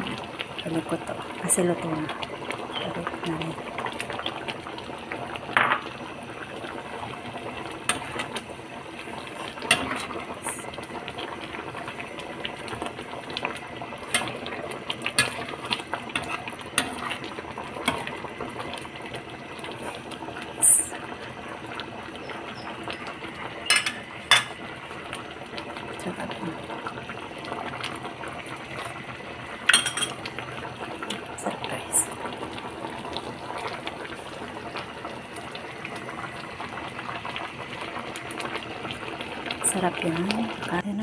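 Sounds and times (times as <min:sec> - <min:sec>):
curry bubbling in a wok: 0:00.0 - 0:40.9.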